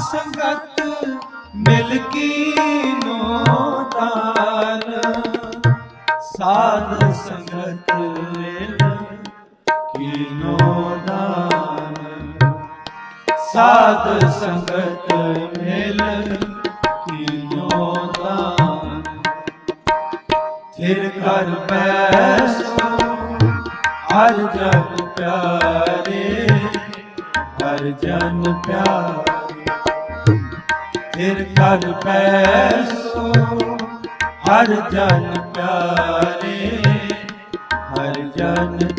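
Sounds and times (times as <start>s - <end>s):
harmonium melody: 0.0s - 38.9s
tabla playing steady rhythm: 0.0s - 38.9s.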